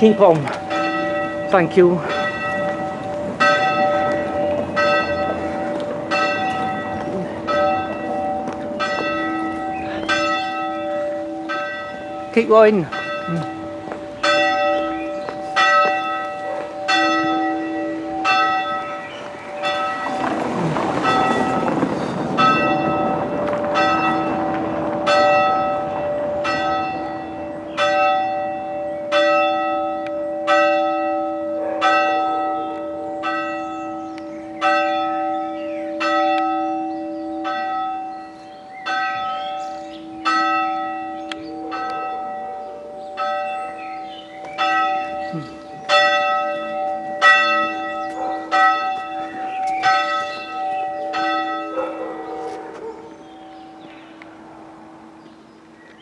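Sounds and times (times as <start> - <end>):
church bell tolling: 0.0 - 55.6.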